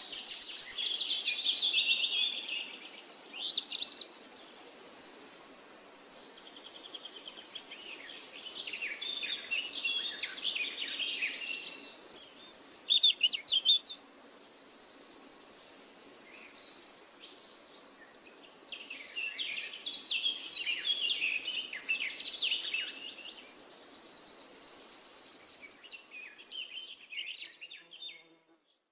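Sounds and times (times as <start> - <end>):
songbirds chirping and warbling: 0.0 - 28.9.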